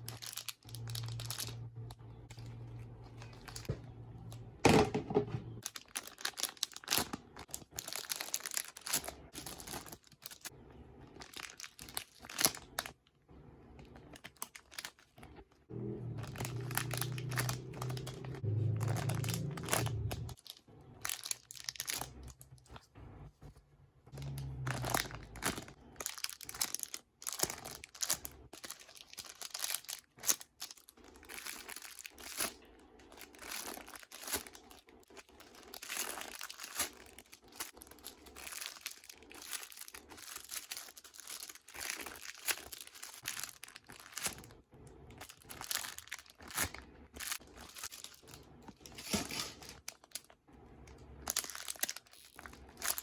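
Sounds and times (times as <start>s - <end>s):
packaging crinkling and rustling: 0.0s - 53.0s.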